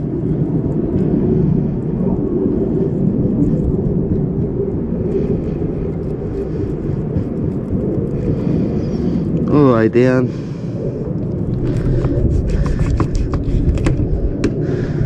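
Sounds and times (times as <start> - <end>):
low rumbling: 0.0 - 15.0.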